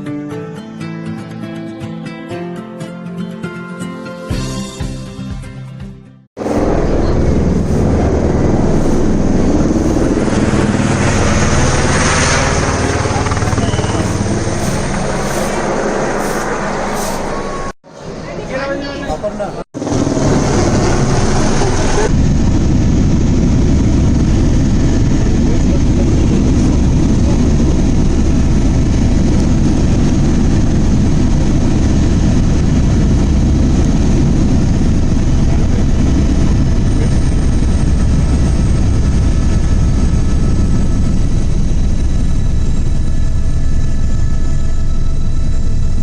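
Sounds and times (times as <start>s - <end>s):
helicopter running: 6.4s - 46.0s.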